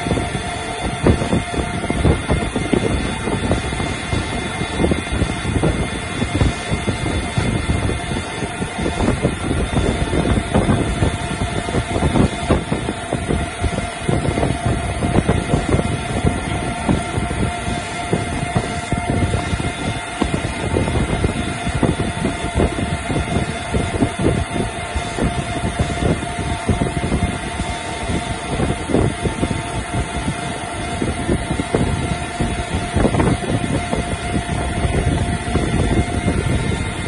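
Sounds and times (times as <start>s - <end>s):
lathe cutting metal: 0.0s - 37.0s
steady machine whine: 0.0s - 37.0s.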